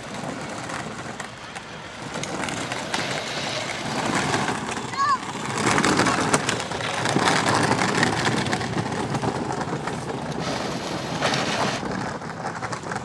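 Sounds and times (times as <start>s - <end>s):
toy motorcycle rolling on dirt: 0.0s - 13.0s.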